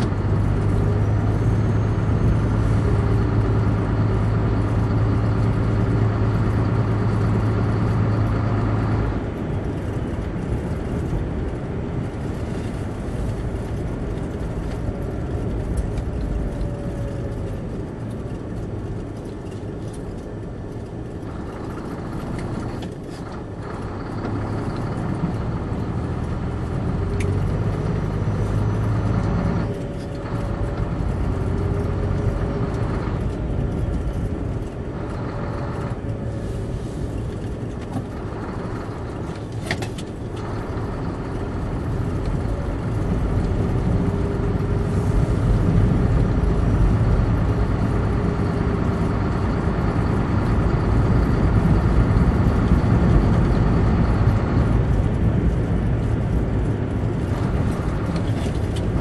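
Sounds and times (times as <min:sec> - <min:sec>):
engine drone: 0:00.0 - 0:59.0
tyres on snowy road: 0:00.0 - 0:59.0.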